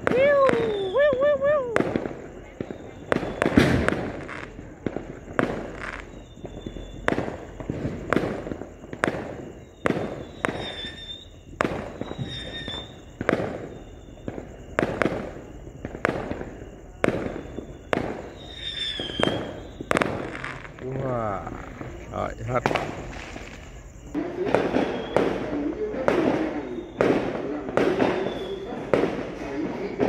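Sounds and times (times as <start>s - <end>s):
faint high whistles: 0.0s - 7.7s, 8.4s - 22.6s, 24.4s - 29.9s
aerial fireworks bursting: 0.0s - 30.0s.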